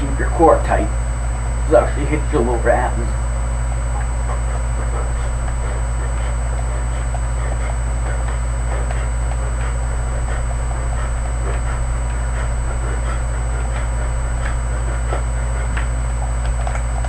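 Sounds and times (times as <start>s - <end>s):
high whine: 0.0s - 17.0s
low electrical hum: 0.0s - 17.0s.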